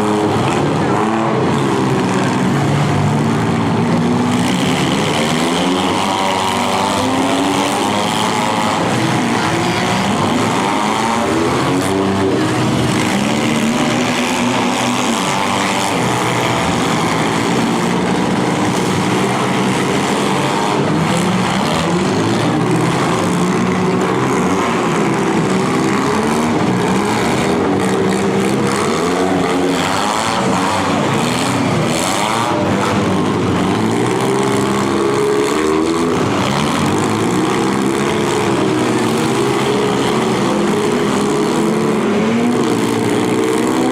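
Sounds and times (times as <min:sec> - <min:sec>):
car engines revving hard: 0:00.0 - 0:43.9.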